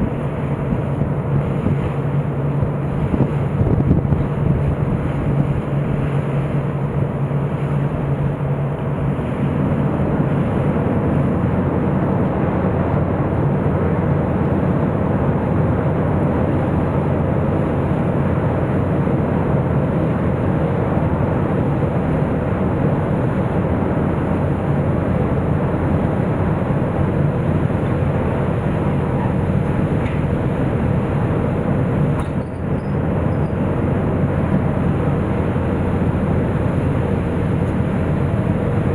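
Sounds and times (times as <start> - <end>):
ferry engines rumbling: 0.0 - 38.9.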